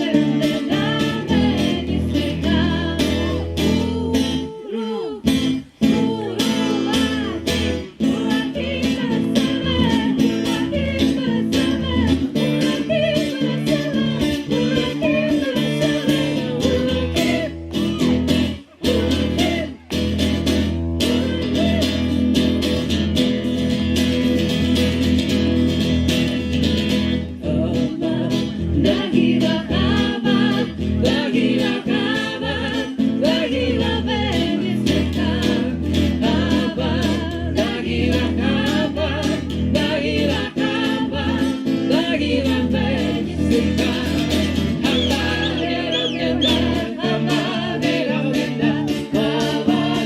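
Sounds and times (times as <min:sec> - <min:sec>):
voices singing together: 0:00.0 - 0:22.2, 0:27.3 - 0:50.0
guitar accompaniment: 0:00.0 - 0:50.0.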